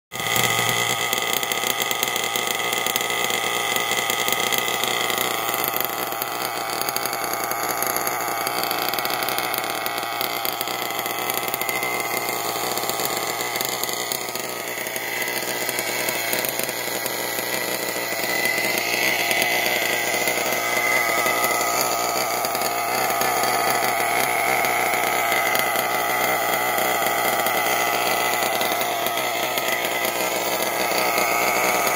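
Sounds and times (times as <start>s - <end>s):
small engine idling with high buzz: 0.1s - 31.9s.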